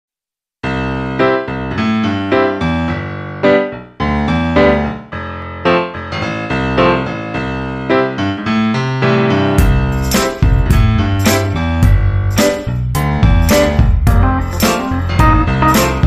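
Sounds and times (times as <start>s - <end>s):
piano-like keyboard music: 0.6s - 16.0s.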